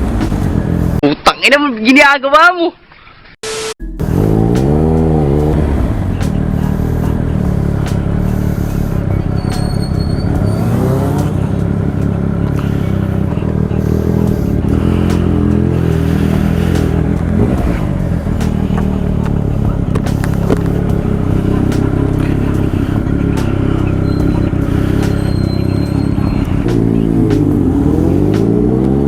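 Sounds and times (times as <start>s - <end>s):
motorcycle engine revving: 0.0s - 1.0s, 4.0s - 29.0s.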